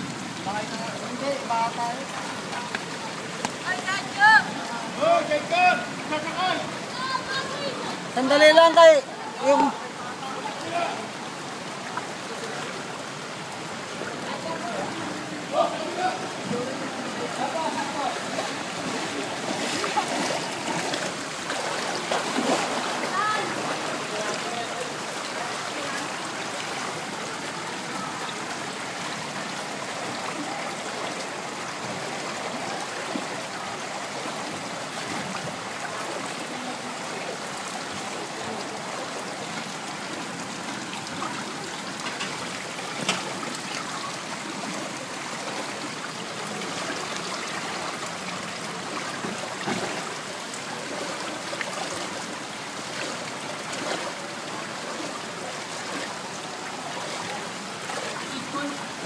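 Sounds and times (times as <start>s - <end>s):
water sloshing and splashing: 0.0s - 59.0s.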